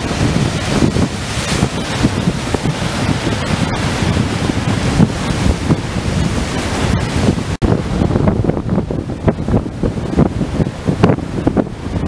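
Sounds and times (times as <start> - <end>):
ocean surf churning: 0.0 - 12.0
wind buffeting microphone: 0.0 - 12.0.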